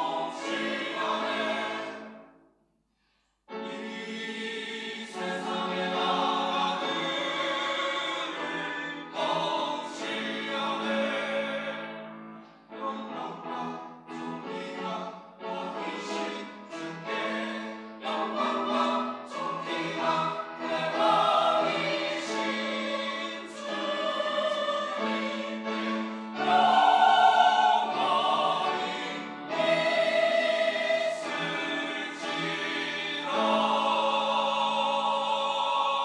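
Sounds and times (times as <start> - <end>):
mixed choir singing: 0.0 - 2.2, 3.5 - 36.0.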